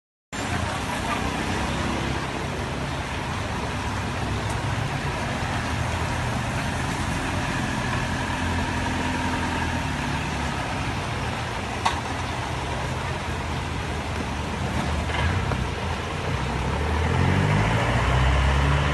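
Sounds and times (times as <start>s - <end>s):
car engine idling: 0.4s - 16.8s
steady rain: 0.4s - 18.9s
traffic on wet street: 0.4s - 18.9s.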